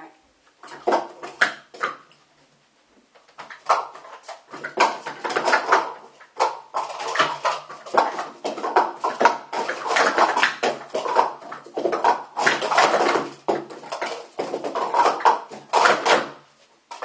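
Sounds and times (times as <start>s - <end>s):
plastic cups clattering: 0.0s - 2.1s, 3.2s - 17.0s.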